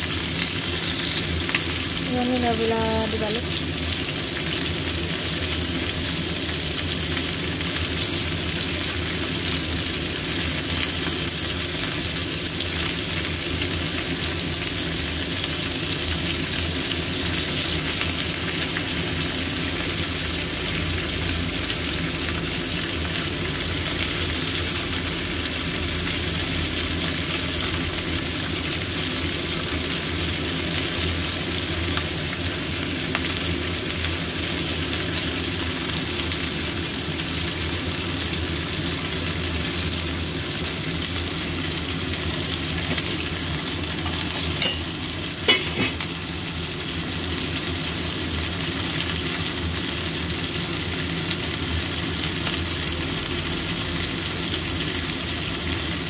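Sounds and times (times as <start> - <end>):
shrimp sizzling in hot oil: 0.0 - 56.0.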